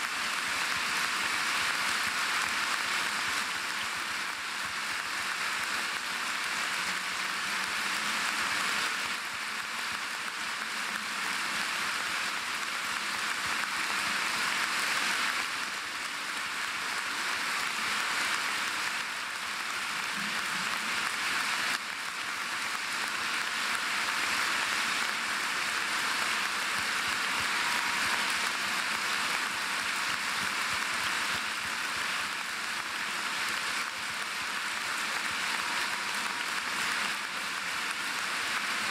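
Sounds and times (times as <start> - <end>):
large audience applause: 0.0 - 38.9.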